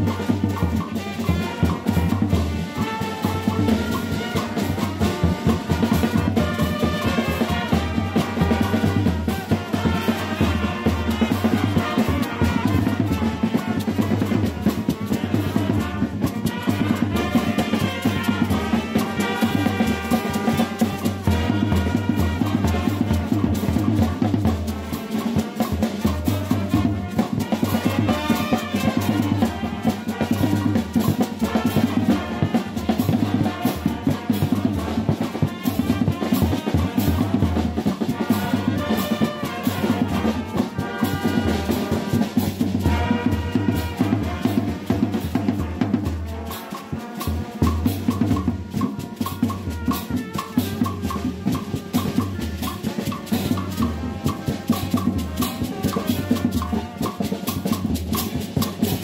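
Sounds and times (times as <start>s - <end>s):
bass drum and snare beat: 0.0s - 59.0s
brass band playing: 0.0s - 59.0s.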